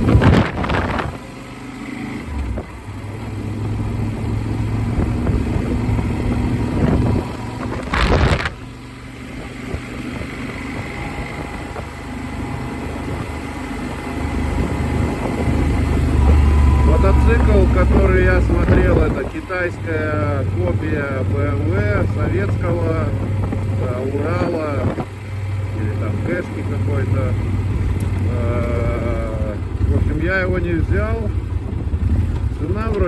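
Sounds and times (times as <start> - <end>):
wind rushing over microphone: 0.0 - 1.3, 3.7 - 33.0
motorcycle engine running: 0.0 - 33.0.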